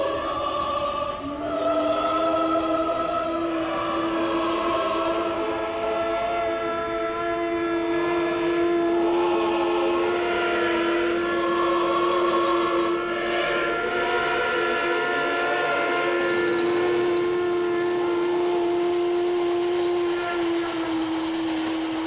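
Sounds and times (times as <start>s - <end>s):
train horns blast: 0.0s - 22.0s.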